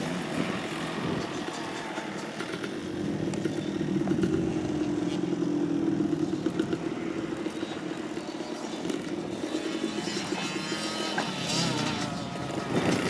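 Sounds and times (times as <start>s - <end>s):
motorcycle engine passing: 0.0s - 13.0s.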